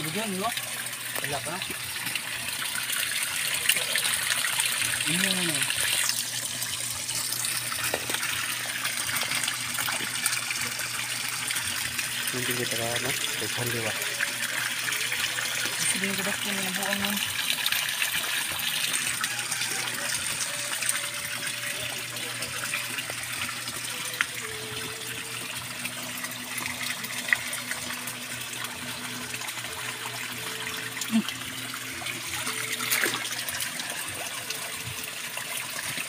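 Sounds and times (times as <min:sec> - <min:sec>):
water pouring into pond: 0:00.0 - 0:36.0.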